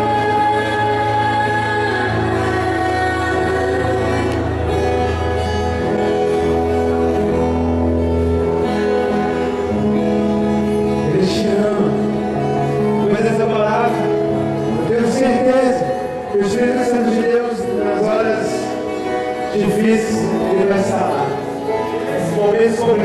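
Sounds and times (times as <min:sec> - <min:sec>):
background music slow chords: 0:00.0 - 0:23.0.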